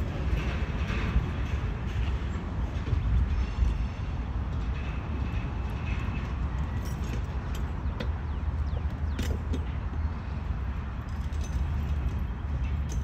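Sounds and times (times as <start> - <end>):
train cars rumbling past: 0.0 - 13.0.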